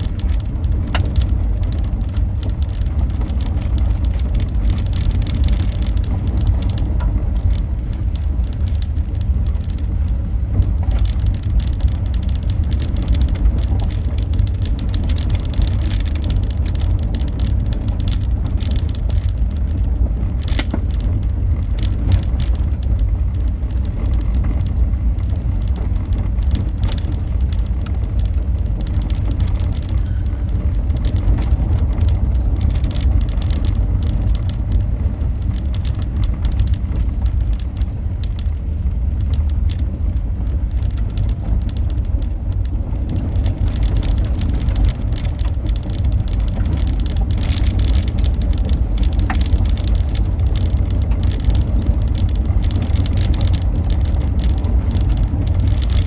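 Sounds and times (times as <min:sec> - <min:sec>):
engine and tyre rumble on gravel: 0:00.0 - 0:56.0
sharp gravel ticks: 0:00.0 - 0:56.0.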